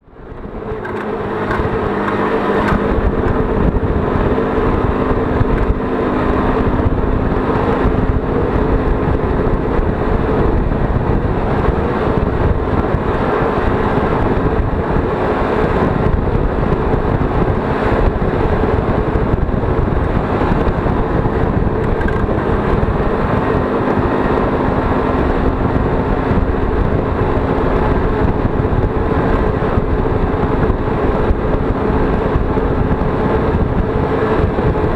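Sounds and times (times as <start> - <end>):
moped engine droning: 0.0 - 34.9.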